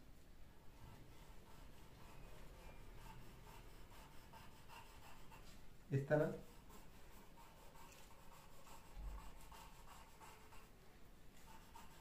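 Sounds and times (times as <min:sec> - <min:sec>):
pencil scratching on paper: 0:00.8 - 0:05.6, 0:06.2 - 0:10.8, 0:11.4 - 0:12.0.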